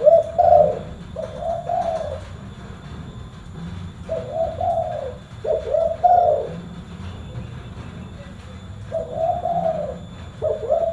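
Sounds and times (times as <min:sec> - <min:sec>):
dove cooing: 0:00.0 - 0:10.9.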